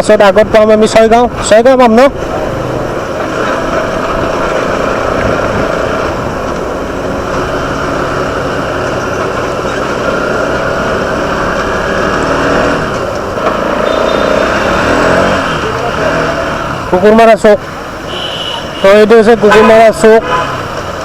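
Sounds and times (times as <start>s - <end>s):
road and wind noise: 0.0s - 21.0s
motorcycle engine hum: 1.2s - 21.0s.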